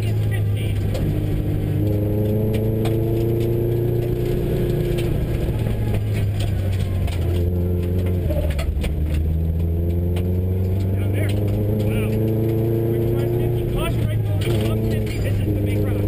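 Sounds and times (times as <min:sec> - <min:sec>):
car engine revving: 0:00.0 - 0:16.0
gravel pinging against car: 0:00.0 - 0:16.0.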